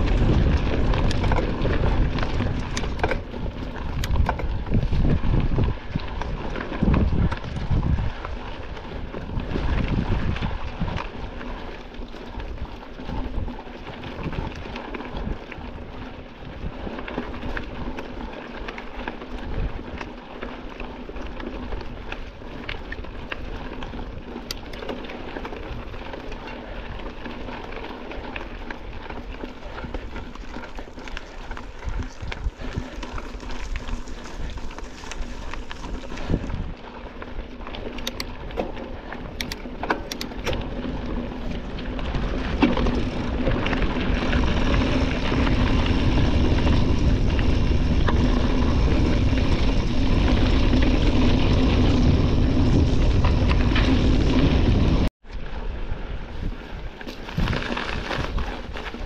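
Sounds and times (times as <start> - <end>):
bike rattling clicks: 0.0 - 15.8, 16.8 - 55.0
bike tyres on gravel: 0.0 - 59.0.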